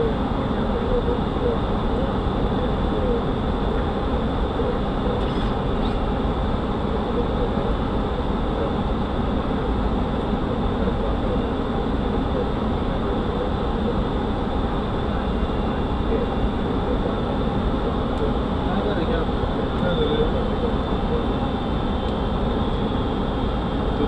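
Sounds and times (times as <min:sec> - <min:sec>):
airflow and engine noise: 0:00.0 - 0:24.0.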